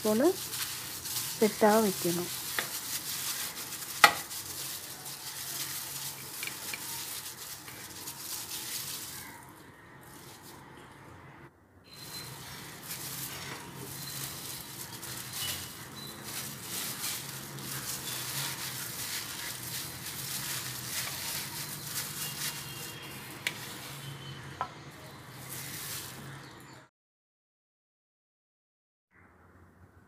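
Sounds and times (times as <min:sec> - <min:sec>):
plastic wrap crinkling: 0:00.0 - 0:11.0, 0:11.9 - 0:24.5, 0:25.3 - 0:26.6.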